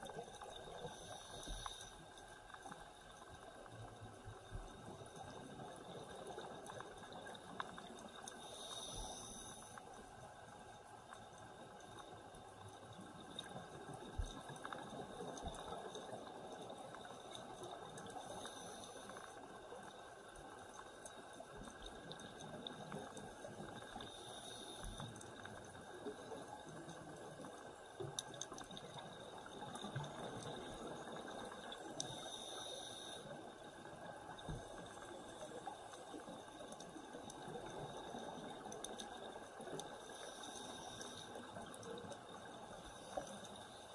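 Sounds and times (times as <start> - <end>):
faint clicks: 0.0 - 43.9
underwater bubbling hiss: 0.0 - 43.9.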